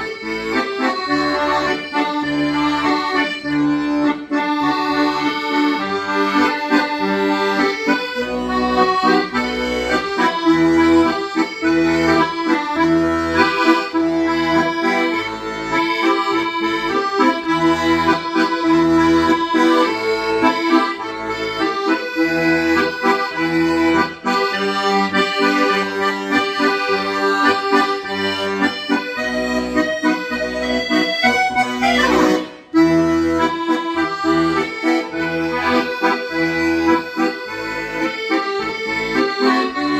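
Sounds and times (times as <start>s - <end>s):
accordion melody with bass notes: 0.0s - 39.9s.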